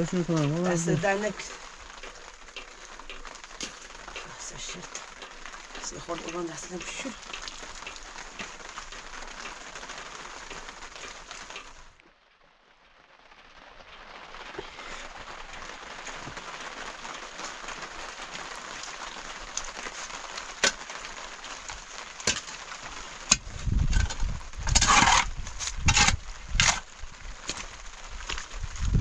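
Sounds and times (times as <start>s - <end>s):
rain hissing: 0.0s - 29.0s.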